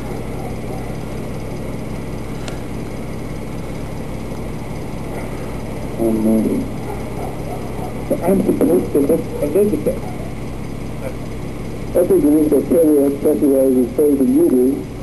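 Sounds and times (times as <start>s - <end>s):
recording hum and hiss: 0.0s - 15.0s.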